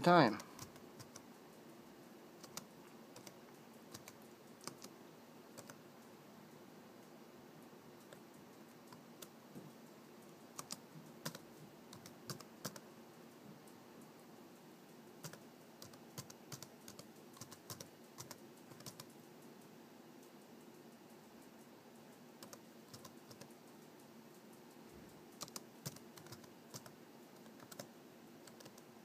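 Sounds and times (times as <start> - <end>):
faint keyboard typing: 0.0 - 29.0.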